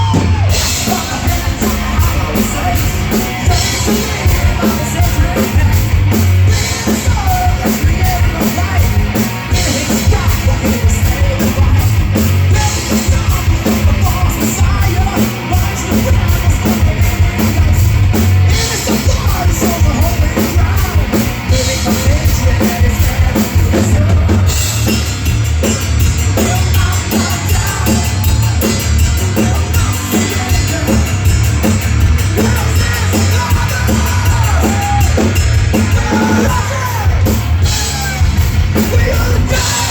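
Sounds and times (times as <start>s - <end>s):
drum kit and cymbals: 0.0s - 39.9s
heavy metal band playing live: 0.0s - 39.9s.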